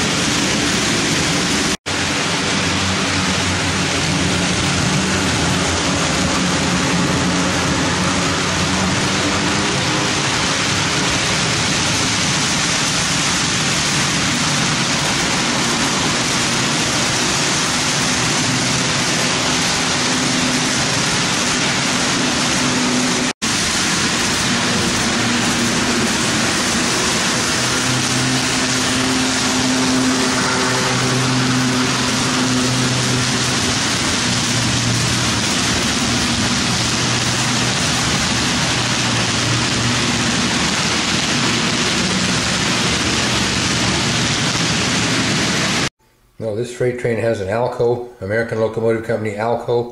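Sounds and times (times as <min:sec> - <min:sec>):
low motor hum: 0:02.2 - 0:45.6.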